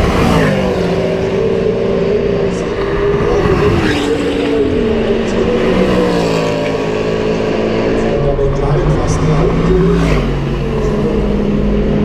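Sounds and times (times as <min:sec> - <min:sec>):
cars accelerating at full throttle: 0:00.0 - 0:12.0.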